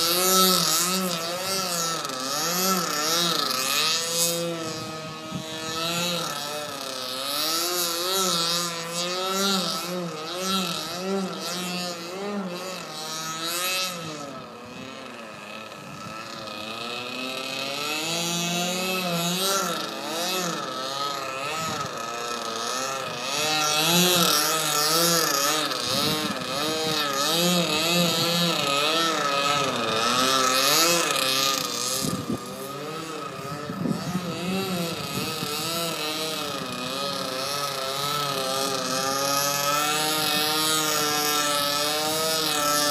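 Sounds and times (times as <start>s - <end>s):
model airplane engine buzzing: 0.0s - 42.9s.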